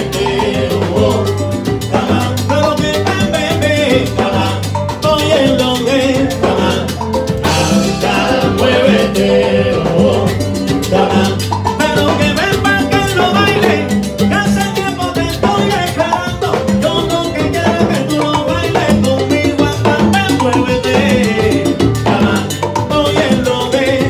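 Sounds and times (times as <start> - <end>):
congas: 0.0 - 24.0
male singer: 0.0 - 24.0
salsa band playing: 0.0 - 24.0.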